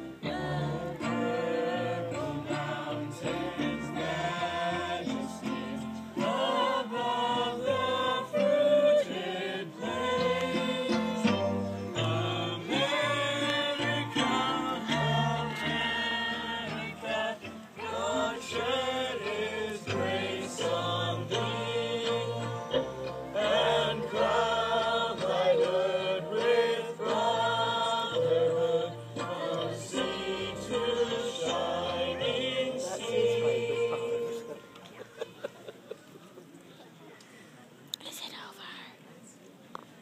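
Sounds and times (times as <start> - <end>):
children's choir singing: 0.0 - 35.0.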